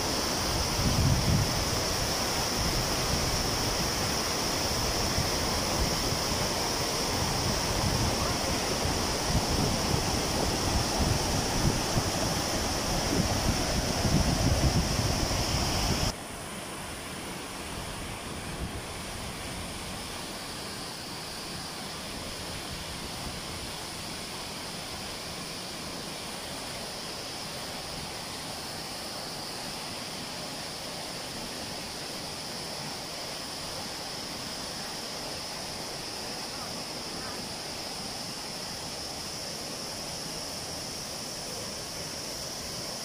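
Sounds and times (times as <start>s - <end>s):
waterfall rushing over rock: 0.0s - 43.0s.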